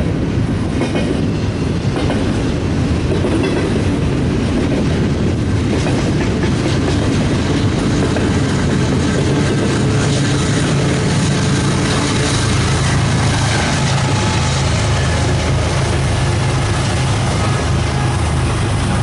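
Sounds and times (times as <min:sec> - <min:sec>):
diesel locomotive engine drone: 0:00.0 - 0:19.0
train wheels rumbling on rails: 0:00.0 - 0:19.0.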